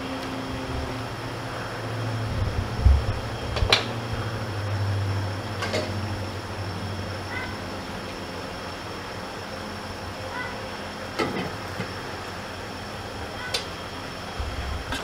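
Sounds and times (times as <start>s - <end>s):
cooking hum and hiss: 0.0s - 15.0s.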